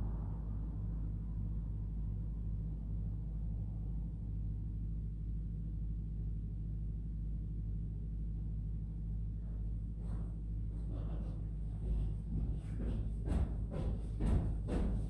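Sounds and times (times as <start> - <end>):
low humming tones: 0.0 - 15.0
low rumble: 0.0 - 15.0.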